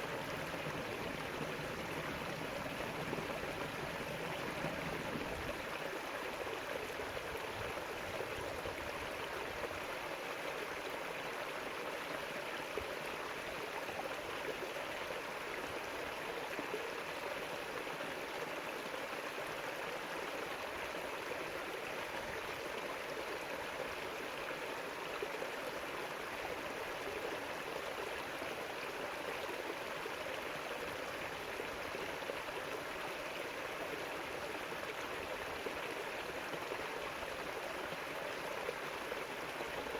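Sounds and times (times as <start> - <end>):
river water flowing and splashing: 0.0 - 39.9.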